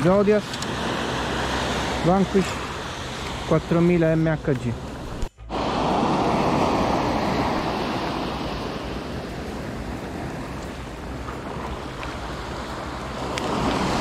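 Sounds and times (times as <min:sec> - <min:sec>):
surf washing up a beach: 0:00.0 - 0:14.0.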